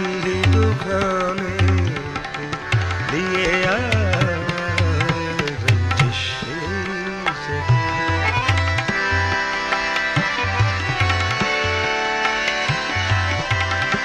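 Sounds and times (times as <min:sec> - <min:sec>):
sustained melodic accompaniment: 0:00.0 - 0:14.0
tabla playing rhythm: 0:00.0 - 0:14.0.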